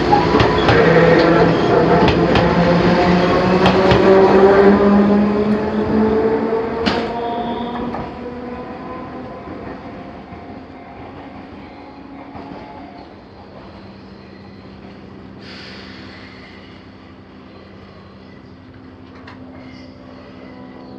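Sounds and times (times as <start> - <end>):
train running over rails: 0.0 - 20.9.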